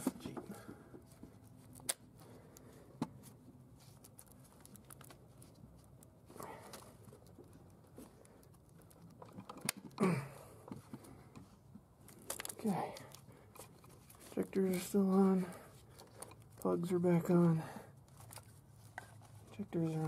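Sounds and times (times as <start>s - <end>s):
clicks and rustling of wiring connectors: 0.0s - 20.0s.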